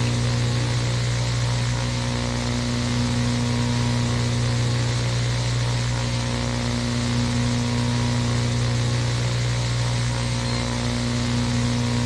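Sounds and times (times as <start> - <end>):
low electronic hum: 0.0 - 12.0
static hiss: 0.0 - 12.0.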